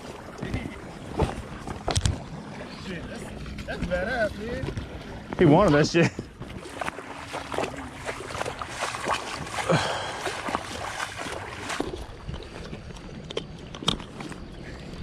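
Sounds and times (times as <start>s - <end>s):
water lapping around boat: 0.0s - 15.0s
wind: 0.0s - 15.0s.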